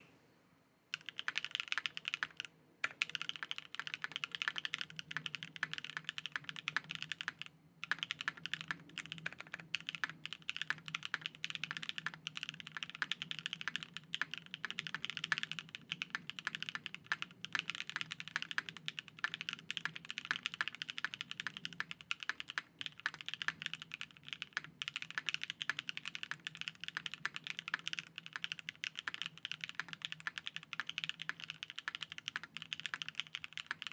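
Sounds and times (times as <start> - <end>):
typing on mechanical keyboard: 0.9 - 33.9.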